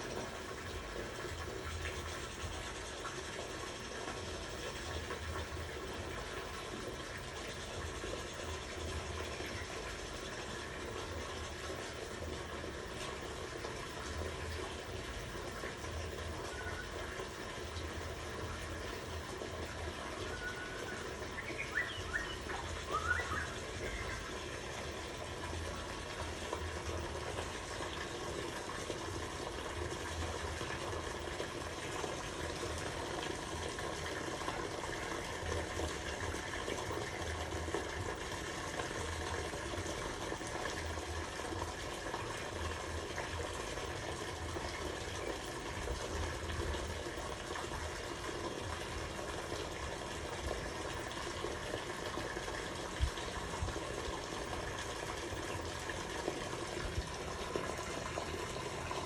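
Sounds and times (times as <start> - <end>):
running splashing water: 0.0 - 59.0.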